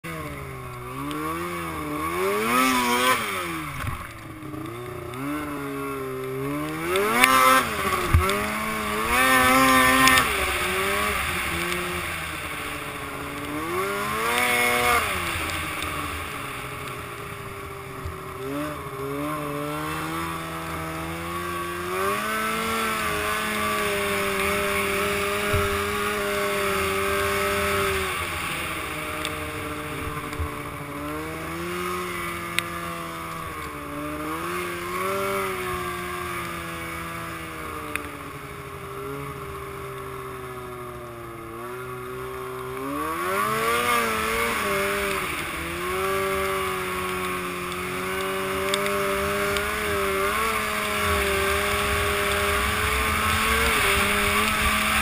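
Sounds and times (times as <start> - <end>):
snowmobile engine revving: 0.0 - 55.0
hiss of snow and wind: 0.1 - 55.0.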